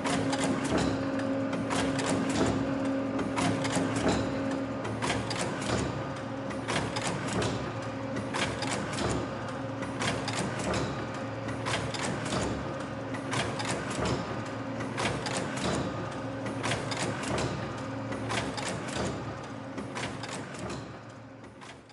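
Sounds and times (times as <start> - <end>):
mechanical clacking and clicking: 0.0 - 21.9.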